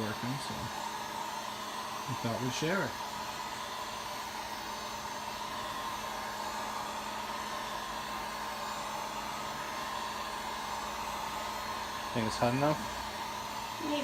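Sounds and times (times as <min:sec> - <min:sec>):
fan motor whine: 0:00.0 - 0:14.0
heat gun blowing air: 0:00.0 - 0:14.0.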